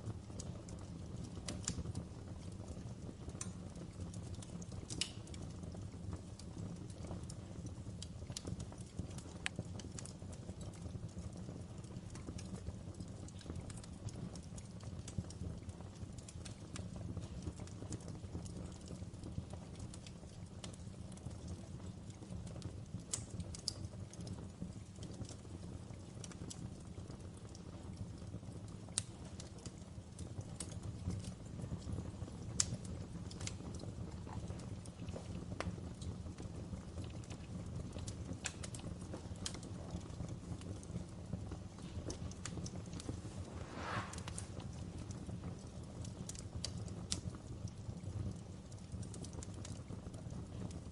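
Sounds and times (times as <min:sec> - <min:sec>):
low rumble of flames: 0:00.0 - 0:50.9
wood fire crackling: 0:00.0 - 0:50.9.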